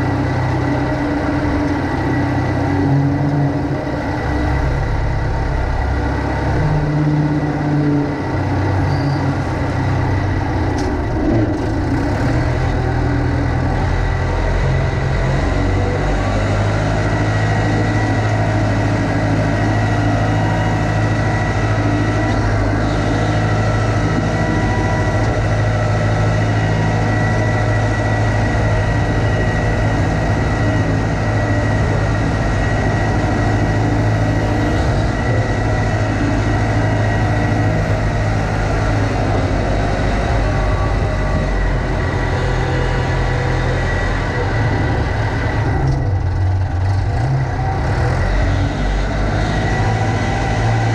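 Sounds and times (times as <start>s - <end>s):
backhoe diesel engine running: 0.0s - 50.9s
steady high whine: 0.0s - 50.9s.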